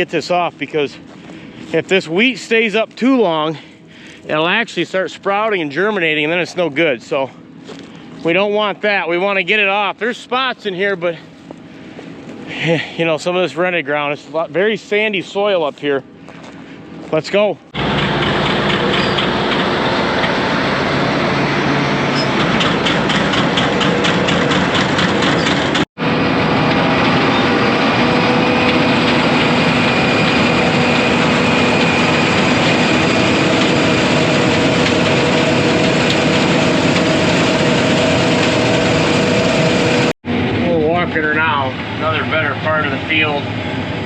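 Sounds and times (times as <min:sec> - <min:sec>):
combine harvester drone: 0:00.0 - 0:44.0
steady machine whine: 0:00.0 - 0:44.0.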